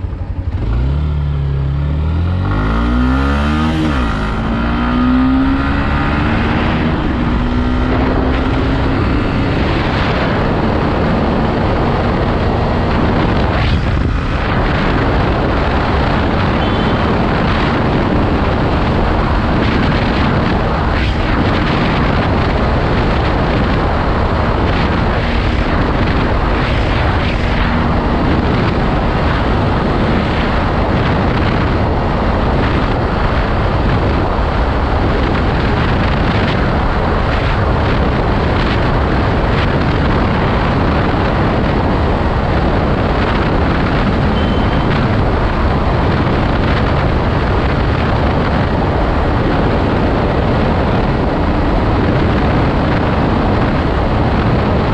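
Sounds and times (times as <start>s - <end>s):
heavy wind: 0.0s - 54.9s
motorcycle engine at high revs: 0.0s - 54.9s
road rush: 0.0s - 54.9s.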